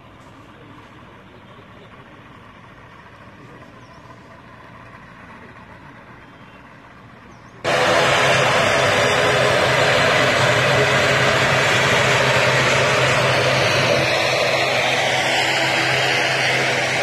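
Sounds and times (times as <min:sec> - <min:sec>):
aircraft engine hum: 0:00.0 - 0:17.0.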